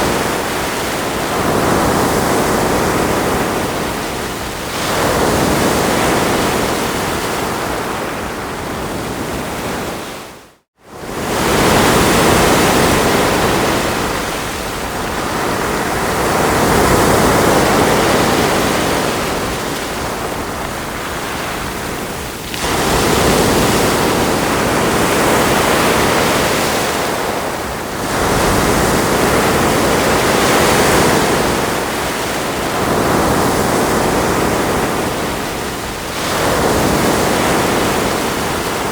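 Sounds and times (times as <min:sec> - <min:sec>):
ocean waves washing onto shore: 0:00.0 - 0:38.9.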